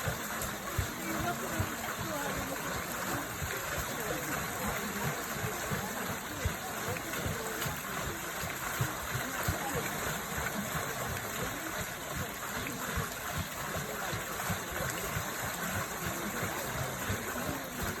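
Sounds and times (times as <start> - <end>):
running water flowing: 0.0 - 18.0.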